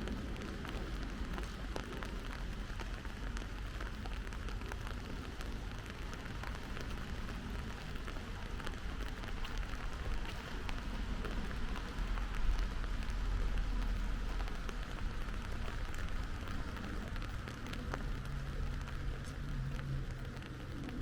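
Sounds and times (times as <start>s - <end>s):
low steady hum: 0.0s - 21.0s
steady rain falling: 0.0s - 21.0s.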